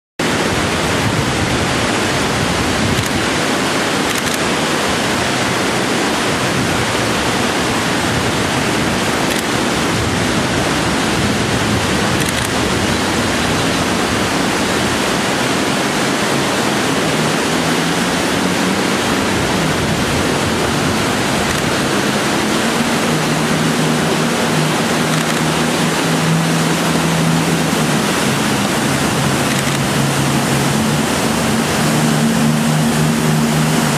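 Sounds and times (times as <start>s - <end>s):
boat engines droning: 0.2s - 33.9s
river rapids rushing: 0.2s - 33.9s.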